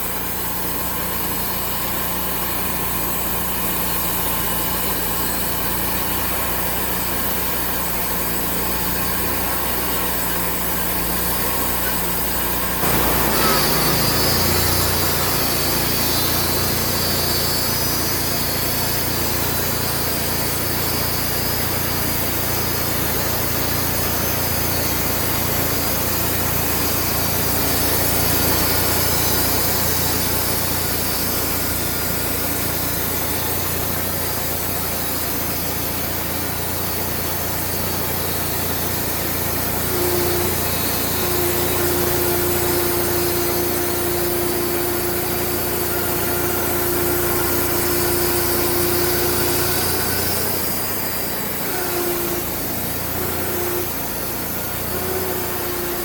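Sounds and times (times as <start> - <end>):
band saw cutting log: 0.0 - 56.0
sawmill engine running: 0.0 - 56.0.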